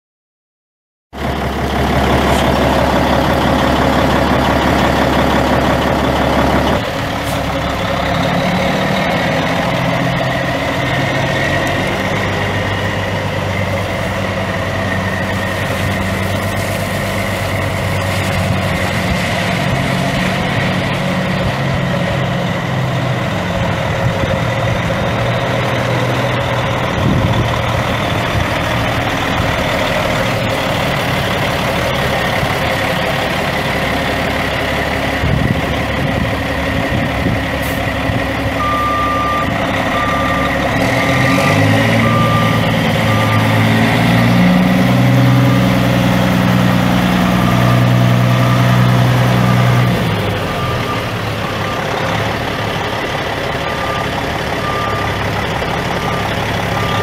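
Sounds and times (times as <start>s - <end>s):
diesel truck engine idling: 1.2s - 57.0s.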